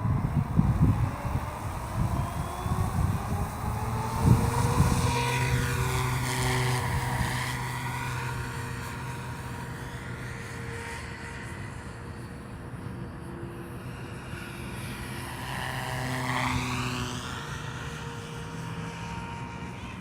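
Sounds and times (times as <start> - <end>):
wind buffeting microphone: 0.0 - 18.5
high motor whine: 0.0 - 20.0
model helicopter rotor hum: 0.0 - 20.0.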